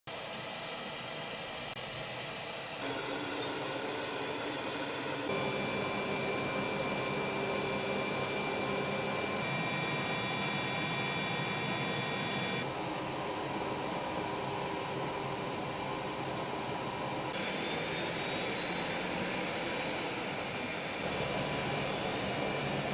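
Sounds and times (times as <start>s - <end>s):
helicopter turbine engine whine: 0.1s - 22.9s.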